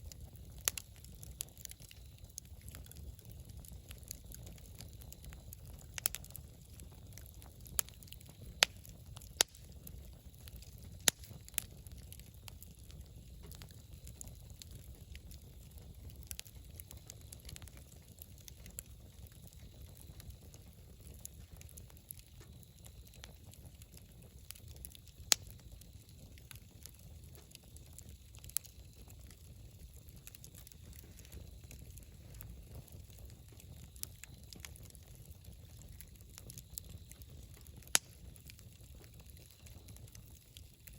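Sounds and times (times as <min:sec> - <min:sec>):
bonfire crackling: 0:00.0 - 0:40.9
sharp pops of burning wood: 0:00.0 - 0:40.9.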